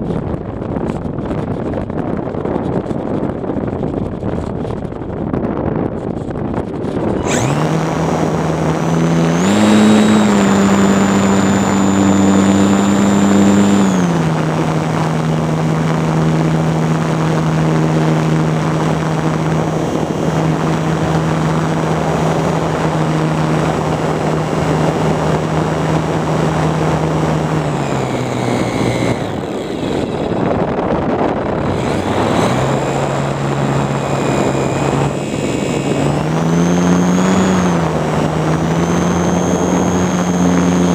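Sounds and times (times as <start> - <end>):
model airplane motor whining: 0.8 - 40.9.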